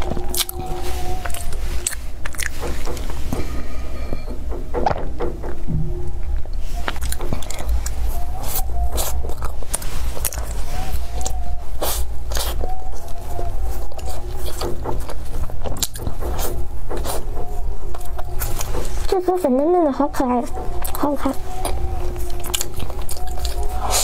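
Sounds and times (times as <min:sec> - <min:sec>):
biting and chewing pastry: 0:00.0 - 0:03.4, 0:06.8 - 0:19.1, 0:20.5 - 0:24.0
low rumble: 0:00.0 - 0:23.9.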